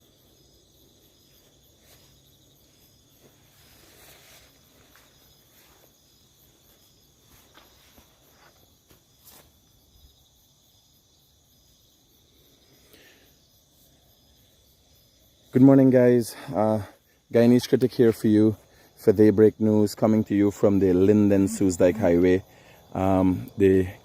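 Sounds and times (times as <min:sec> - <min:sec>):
crickets and insects chirring: 0:00.0 - 0:24.0.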